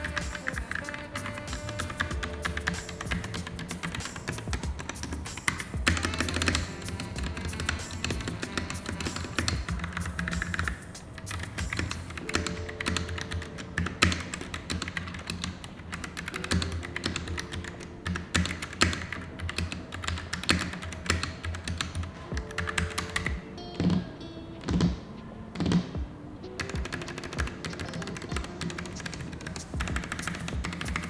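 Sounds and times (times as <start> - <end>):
mechanical keyboard typing: 0.0 - 25.0, 26.6 - 31.0
background music: 0.0 - 31.0.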